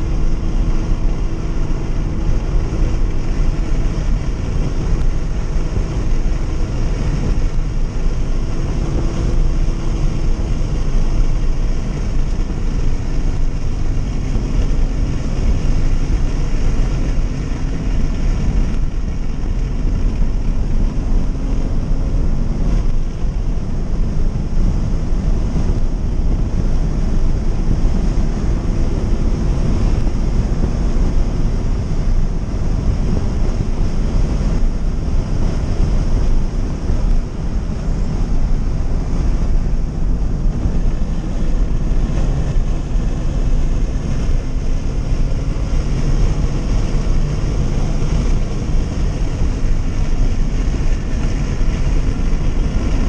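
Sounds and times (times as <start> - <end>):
car engine pulling hard: 0.0 - 53.0
road and wind noise: 0.0 - 53.0.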